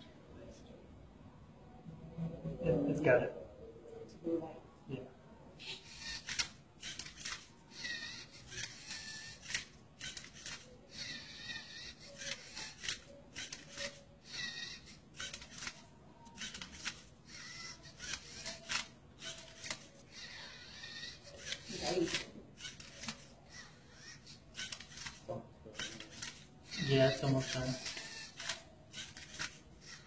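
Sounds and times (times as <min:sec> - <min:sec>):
robot motors whirring: 0:05.6 - 0:30.0.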